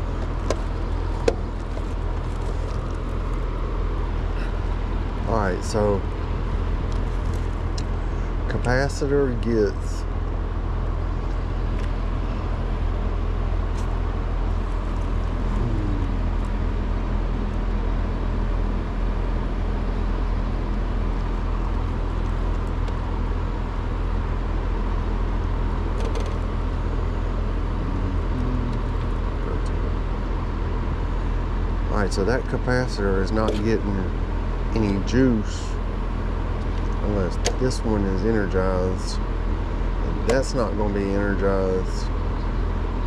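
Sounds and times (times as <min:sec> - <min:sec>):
air conditioner unit humming: 0:00.0 - 0:43.0.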